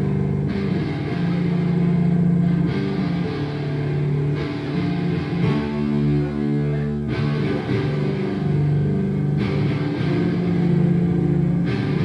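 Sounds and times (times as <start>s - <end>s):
electric guitar heavy riff: 0.0s - 12.0s.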